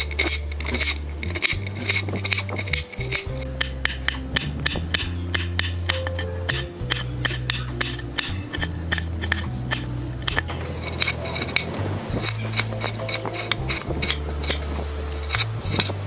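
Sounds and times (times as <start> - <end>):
background music: 0.0 - 16.0
knife chopping on wooden board: 0.2 - 14.7.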